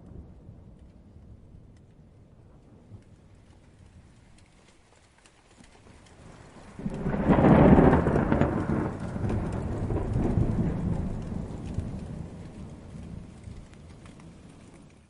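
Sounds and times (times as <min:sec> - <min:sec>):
rolling thunder: 0:00.0 - 0:04.1, 0:06.2 - 0:15.0
rain pattering: 0:00.0 - 0:15.0.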